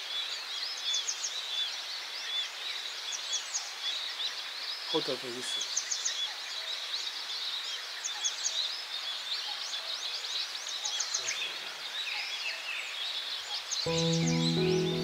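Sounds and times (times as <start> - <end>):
small birds chirping and trilling: 0.0 - 15.0.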